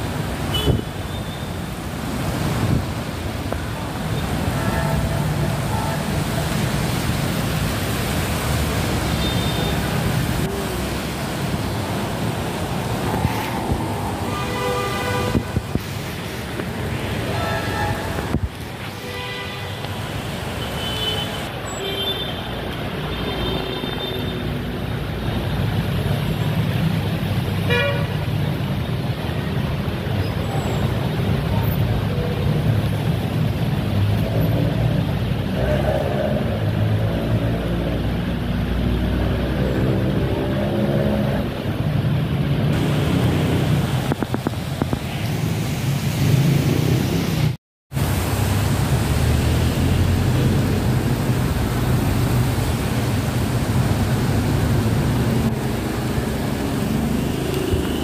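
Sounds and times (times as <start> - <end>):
heavy rain: 0.0 - 58.0
traffic engine rumble: 0.0 - 58.0
vehicles driving on wet road: 0.0 - 58.0.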